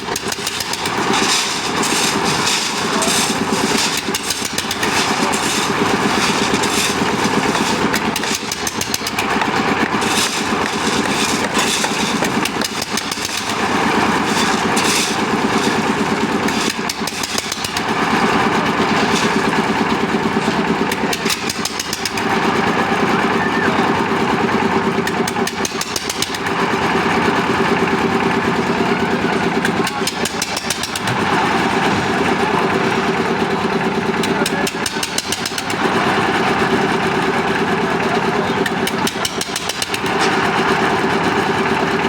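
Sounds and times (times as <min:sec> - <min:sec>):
concrete mixer engine running: 0:00.0 - 0:42.0.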